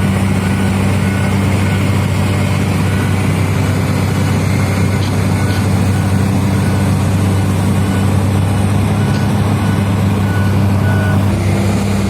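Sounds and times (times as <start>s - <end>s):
heavy diesel engine humming: 0.0s - 12.0s.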